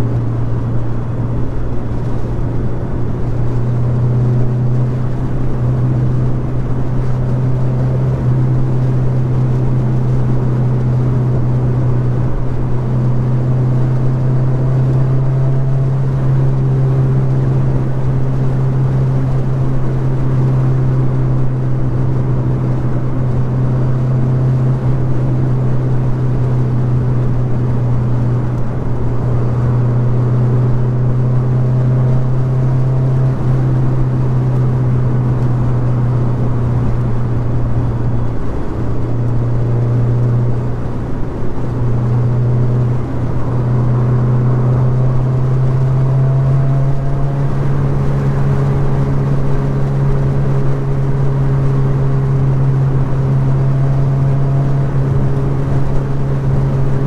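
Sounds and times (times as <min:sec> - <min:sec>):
car engine cruising: 0:00.0 - 0:57.0
road and wind noise: 0:00.0 - 0:57.0.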